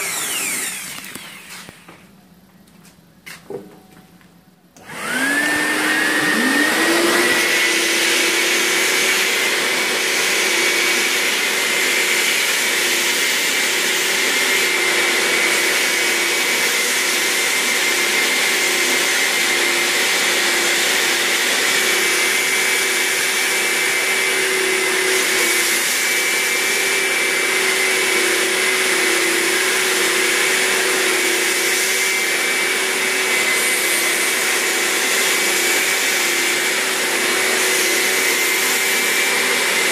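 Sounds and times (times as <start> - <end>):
vacuum nozzle on wet fabric: 0.0 - 2.0, 4.8 - 39.9
wet vacuum motor whining: 0.0 - 2.2, 4.8 - 39.9.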